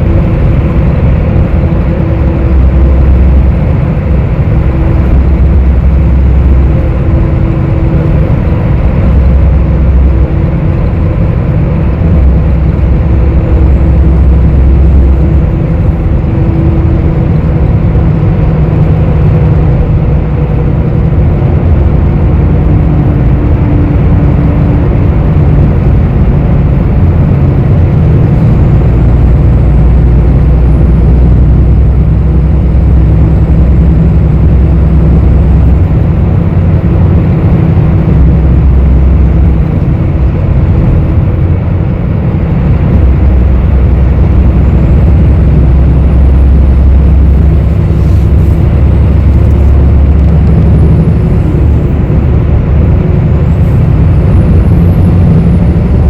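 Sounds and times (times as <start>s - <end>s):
bus engine drone: 0.0s - 56.0s
pitch-drifting hum: 0.0s - 56.0s
road rumble: 0.0s - 56.0s.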